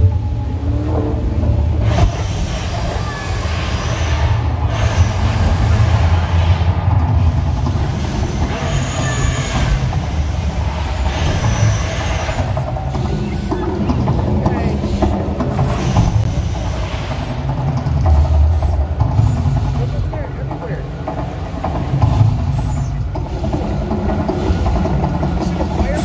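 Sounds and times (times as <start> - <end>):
crowd voices: 0.0 - 26.0
deep rumble and hissing roar: 0.0 - 26.0.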